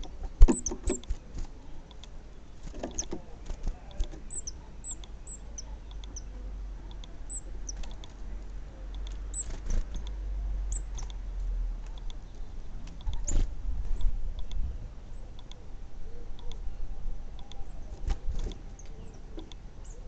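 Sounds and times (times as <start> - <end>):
small birds chirping: 0.0 - 20.0
steady low rumble: 3.2 - 20.0.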